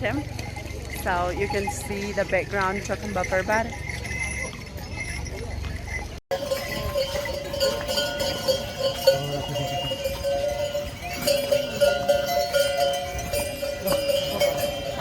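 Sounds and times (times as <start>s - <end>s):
neck bells jingling: 0.0s - 15.0s.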